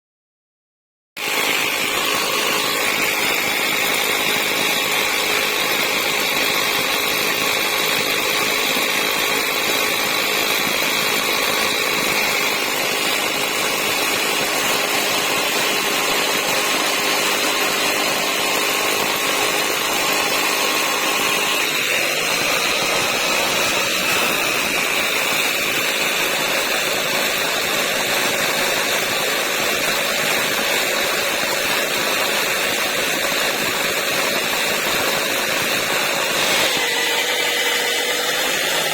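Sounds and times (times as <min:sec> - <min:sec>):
motor whining: 0:01.2 - 0:38.9.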